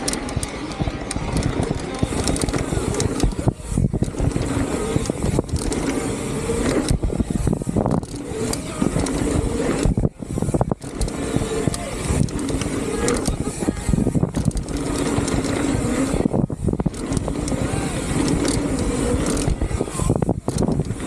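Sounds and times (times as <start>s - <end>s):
bike frame and chain rattling: 0.0s - 21.0s
bike tyre noise: 0.0s - 21.0s
wind rushing over microphone: 0.0s - 21.0s.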